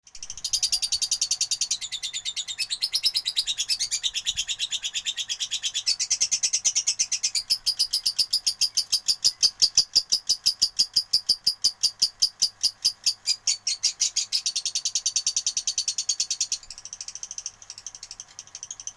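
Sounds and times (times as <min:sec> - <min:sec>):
lovebird chattering song: 0:00.1 - 0:18.9.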